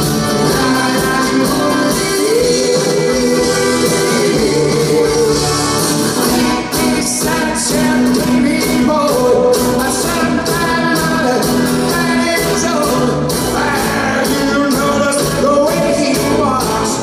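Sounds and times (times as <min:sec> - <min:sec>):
person singing: 0:00.0 - 0:17.0
pop-rock band playing: 0:00.0 - 0:17.0.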